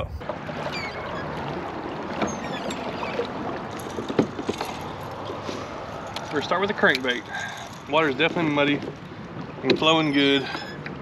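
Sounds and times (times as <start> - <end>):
water rushing against a hull: 0.0 - 11.0.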